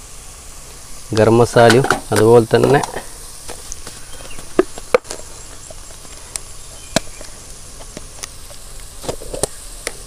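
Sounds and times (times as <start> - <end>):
food sizzling in a pan: 0.0 - 10.0
crackles and pops: 0.6 - 10.0.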